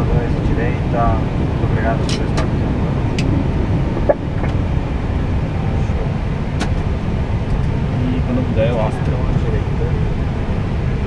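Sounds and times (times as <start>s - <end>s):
cockpit low rumble: 0.0s - 11.0s.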